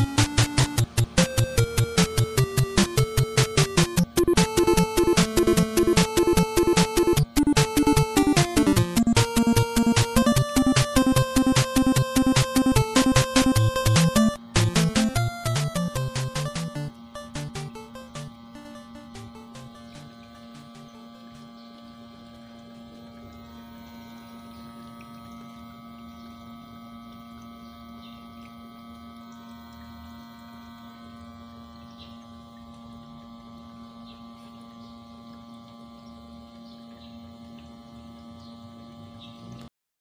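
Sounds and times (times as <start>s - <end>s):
strong steady hum: 0.0s - 39.6s.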